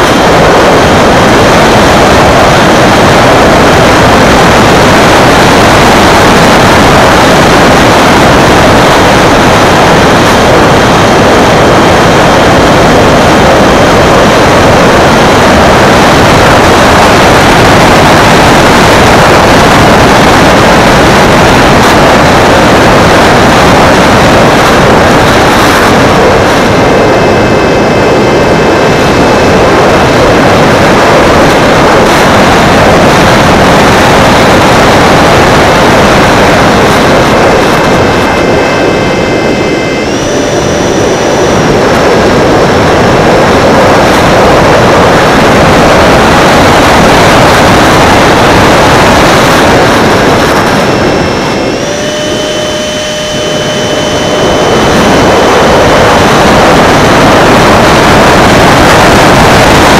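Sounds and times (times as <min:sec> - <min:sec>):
faint motor whine: 0:00.0 - 0:59.9
wind rush: 0:00.0 - 0:59.9.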